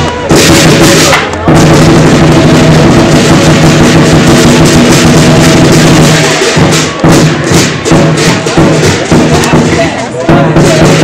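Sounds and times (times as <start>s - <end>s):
lion dance drum and gongs: 0.0s - 11.0s.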